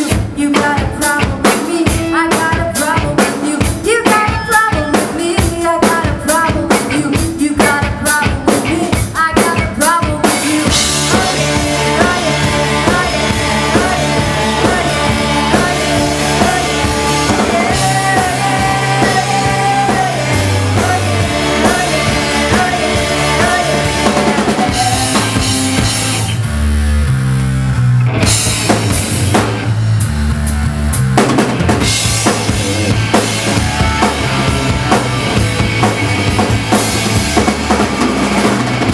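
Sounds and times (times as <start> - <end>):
drum kit playing: 0.0 - 27.4, 28.0 - 38.9
rock band playing live: 0.0 - 38.9.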